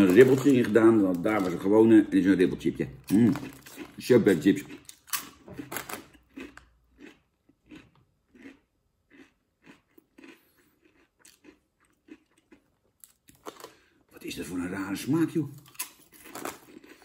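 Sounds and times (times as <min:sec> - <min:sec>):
person crunching potato chips: 0:00.0 - 0:14.0, 0:15.6 - 0:17.0.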